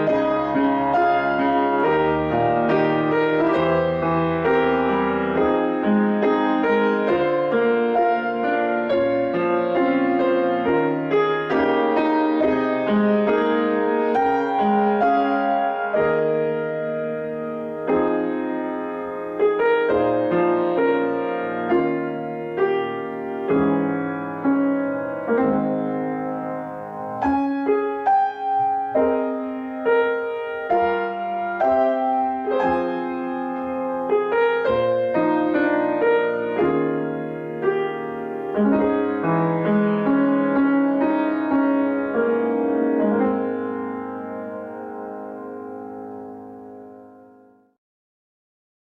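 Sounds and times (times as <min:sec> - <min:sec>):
solo piano piece: 0:00.0 - 0:47.8.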